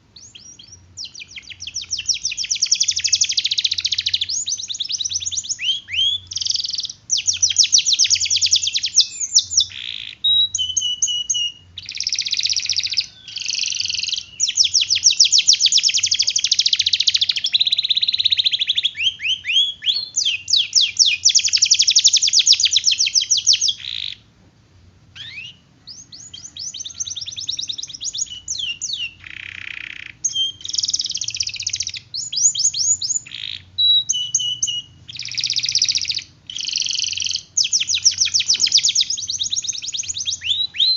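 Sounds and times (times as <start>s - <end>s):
canary singing in rapid trills: 0.2s - 24.3s, 25.1s - 40.9s.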